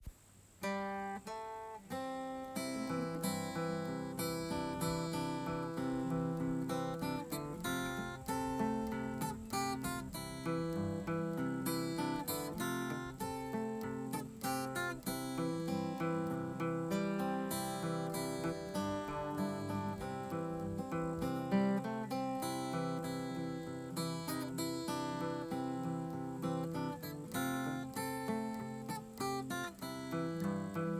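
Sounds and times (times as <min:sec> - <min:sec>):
acoustic guitar music: 0:00.0 - 0:30.9.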